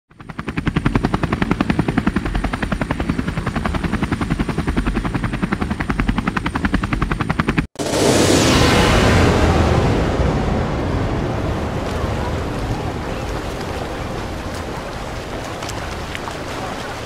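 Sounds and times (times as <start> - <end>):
helicopter rotor chopping: 0.1 - 17.0.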